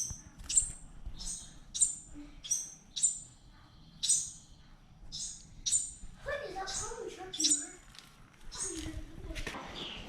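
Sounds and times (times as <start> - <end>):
fledgling birds chirping: 0.0 - 10.0.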